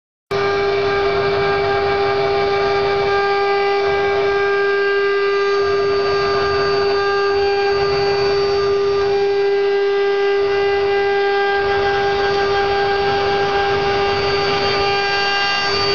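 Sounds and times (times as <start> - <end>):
router spindle whine: 0.3 - 15.9.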